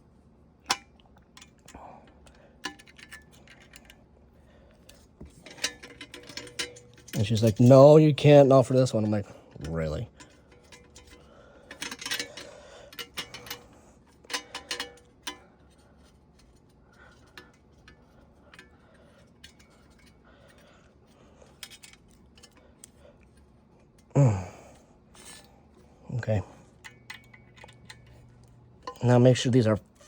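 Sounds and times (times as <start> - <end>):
metal parts and tools clinking: 0.7 - 4.0, 4.9 - 24.1, 26.7 - 30.0.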